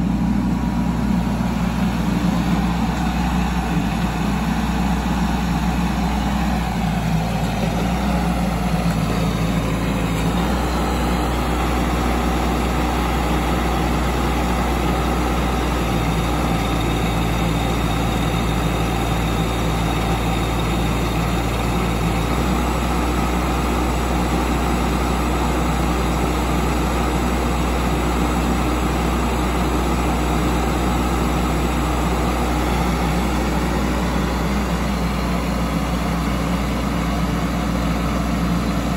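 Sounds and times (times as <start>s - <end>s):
small excavator engine running: 0.0s - 38.9s.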